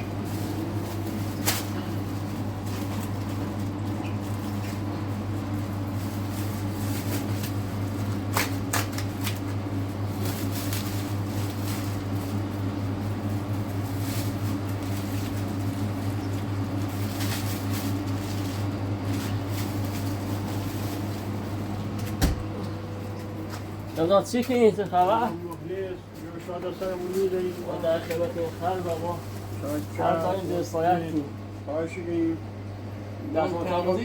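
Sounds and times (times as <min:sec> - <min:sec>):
rustling and handling noises: 0:00.0 - 0:31.3
low mechanical hum: 0:00.0 - 0:34.0.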